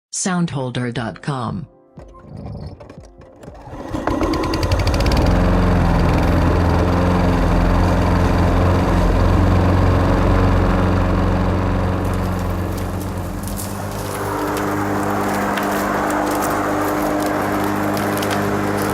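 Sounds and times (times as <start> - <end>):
lawn mower engine starting: 2.2 - 18.9.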